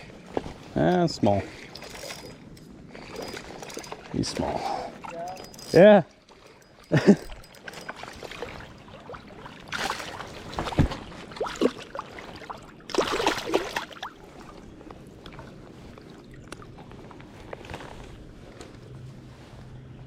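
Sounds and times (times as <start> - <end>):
creek water splashing: 0.0 - 17.8.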